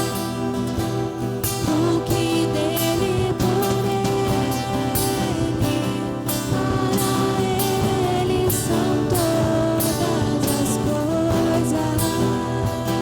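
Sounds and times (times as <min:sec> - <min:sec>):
person singing: 0:00.0 - 0:13.0
worship song by band: 0:00.0 - 0:13.0.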